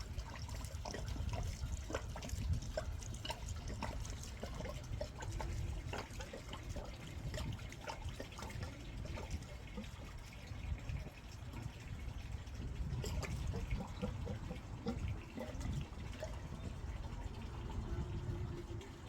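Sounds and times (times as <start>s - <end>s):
water drips and splashes: 0.0s - 19.0s
water trickling and lapping: 0.0s - 19.0s.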